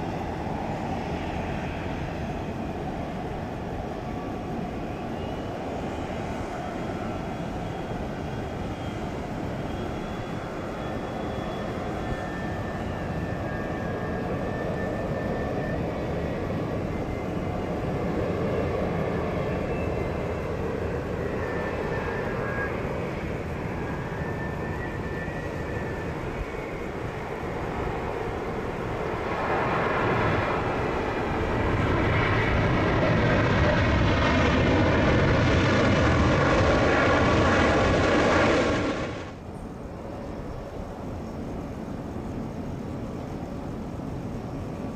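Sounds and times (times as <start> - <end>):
jet engines rumbling with whine: 0.0 - 44.9.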